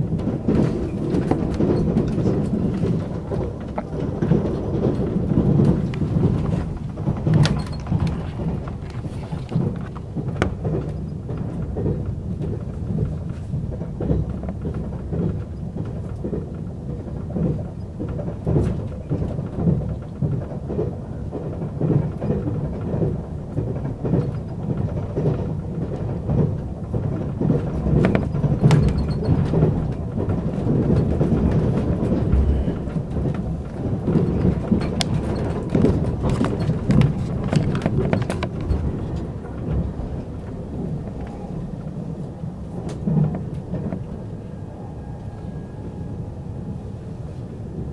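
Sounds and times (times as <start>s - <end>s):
train wheels rumbling on rails: 0.0s - 47.9s
small clicks and rattles: 0.1s - 42.0s.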